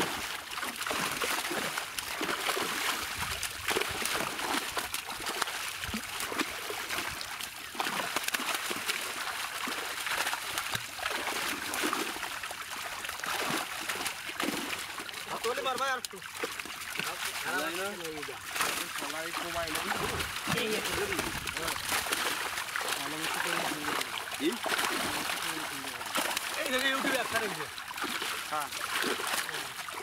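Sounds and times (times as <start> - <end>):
fish splashing in water: 0.0 - 30.0.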